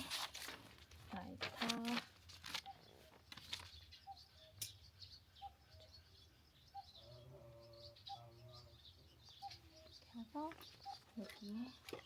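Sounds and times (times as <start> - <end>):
soft high bird chirps: 1.7 - 12.0.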